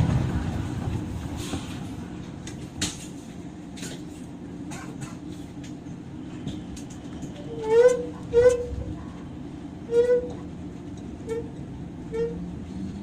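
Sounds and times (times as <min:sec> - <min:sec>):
train cabin low hum: 0:00.0 - 0:13.0.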